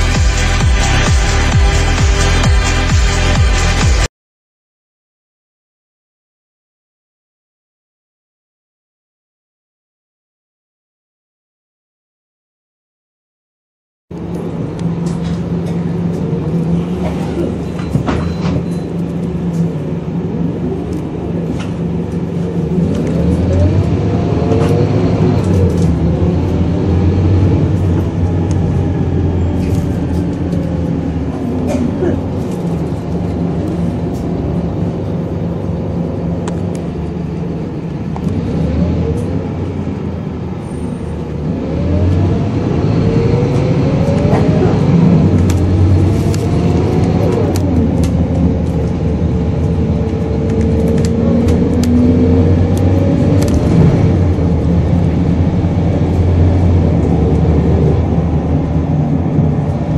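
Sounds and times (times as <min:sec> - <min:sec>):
bus diesel engine: 0:00.0 - 0:04.1, 0:14.1 - 0:59.9.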